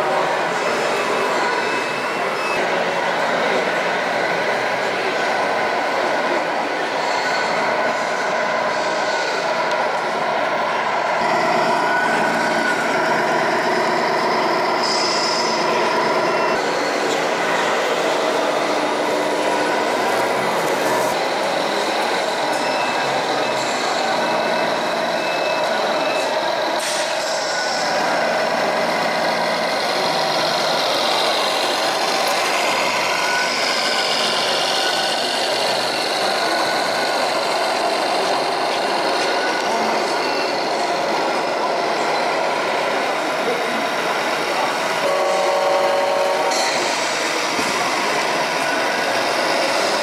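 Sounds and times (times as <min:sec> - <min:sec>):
simulated diesel engine running: 0:00.0 - 0:50.0
steady background din: 0:00.0 - 0:50.0.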